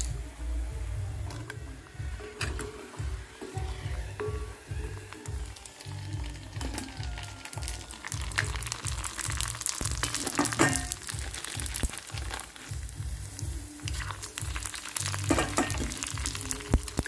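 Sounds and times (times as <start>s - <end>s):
background music with low beat: 0.0s - 17.0s
food sizzling in hot oil: 0.0s - 17.0s.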